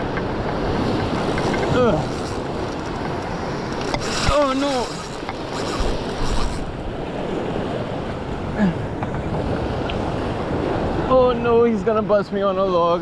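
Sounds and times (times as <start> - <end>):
surf on rocky shore: 0.0 - 13.0
wind buffeting microphone: 0.0 - 13.0.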